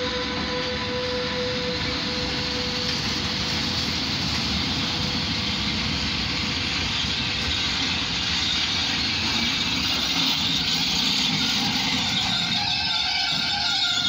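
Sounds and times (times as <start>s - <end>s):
electric locomotive rushing and rumbling: 0.0s - 14.0s.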